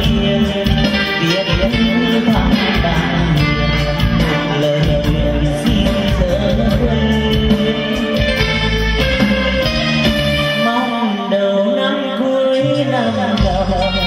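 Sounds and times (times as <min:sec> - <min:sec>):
amplified backing music: 0:00.0 - 0:14.0
man singing into microphone: 0:00.0 - 0:14.0.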